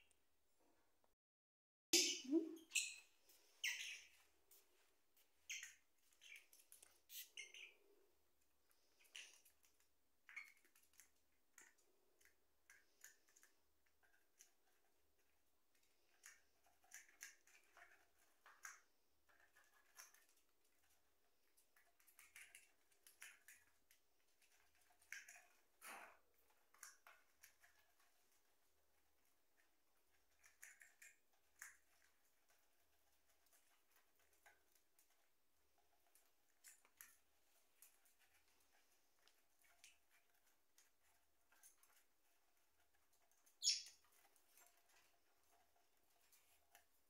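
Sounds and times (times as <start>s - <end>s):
parrots chirping and clicking: 2.0s - 47.0s.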